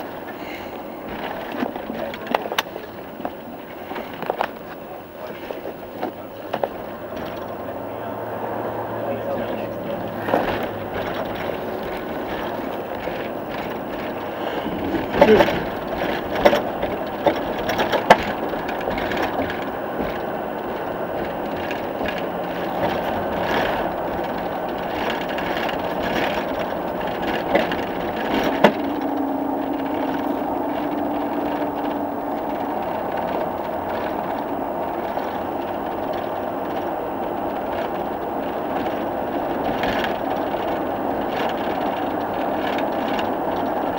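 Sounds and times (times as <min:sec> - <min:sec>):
knocks and rattles: 0:00.0 - 0:43.9
vehicle road and engine rumble: 0:00.0 - 0:43.9.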